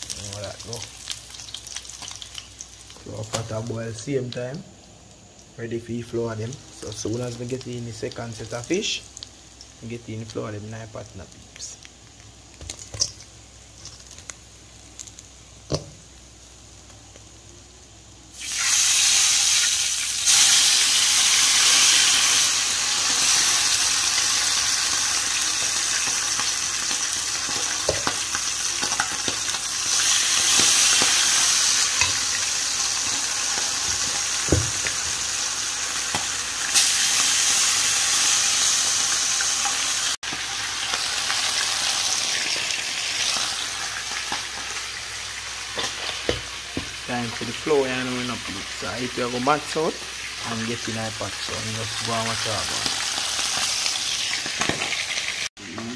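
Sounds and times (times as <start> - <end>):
fish sizzling in hot oil: 0.0 - 4.1, 6.2 - 55.5.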